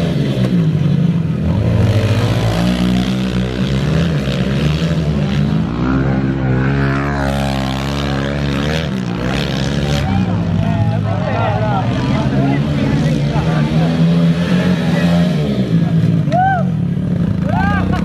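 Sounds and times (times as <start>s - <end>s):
small motorbike engines revving: 0.0s - 18.0s.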